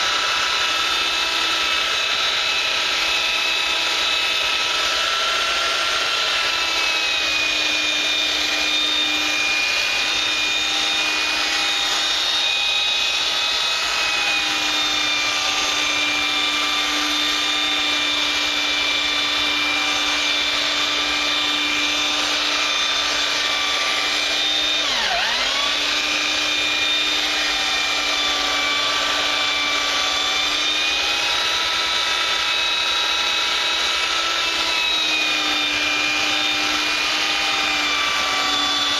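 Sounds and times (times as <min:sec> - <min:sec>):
electric sander on wood: 0:00.0 - 0:38.9.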